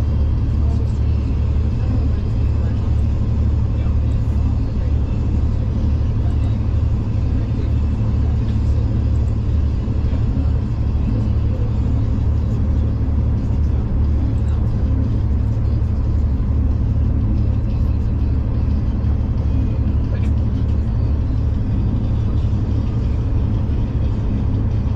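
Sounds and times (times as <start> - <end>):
train rumbling on track: 0.0 - 24.9.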